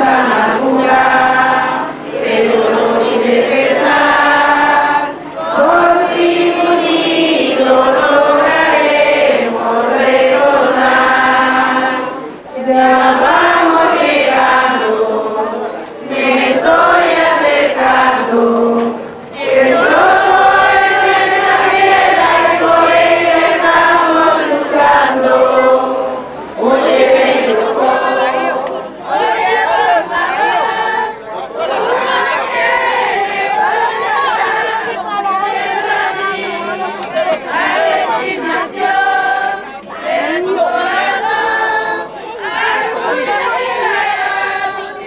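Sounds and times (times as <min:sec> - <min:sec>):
group of voices singing: 0:00.0 - 0:45.0.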